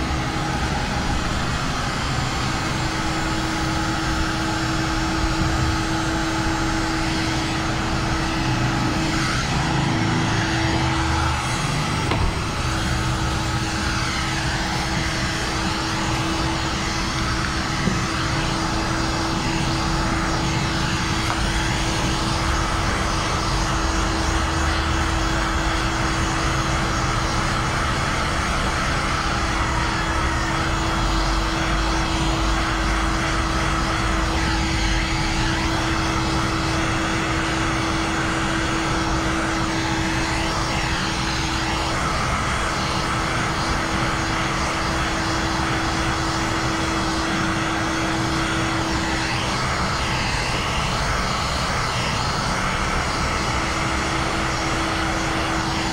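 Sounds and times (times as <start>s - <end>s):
heat gun fan humming: 0.0s - 55.9s.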